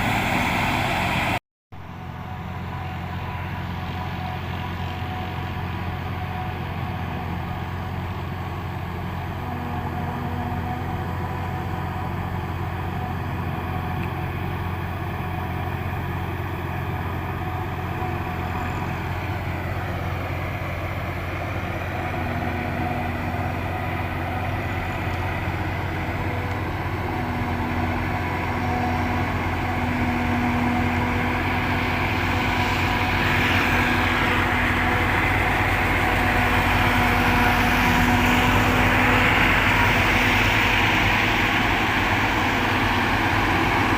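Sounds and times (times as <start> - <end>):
harvester engine hum: 0.0 - 43.9
machinery whine: 0.0 - 43.9.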